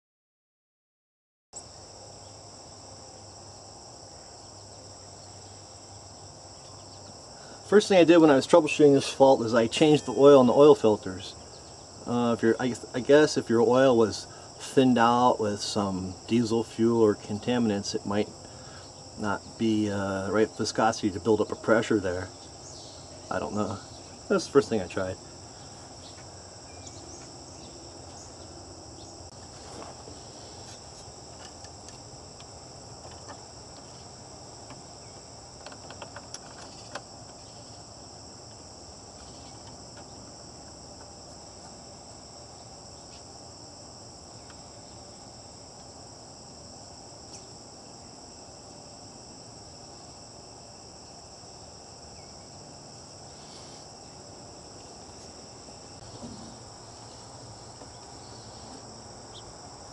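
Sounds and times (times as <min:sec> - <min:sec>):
insects chirping: 0:01.6 - 0:59.9.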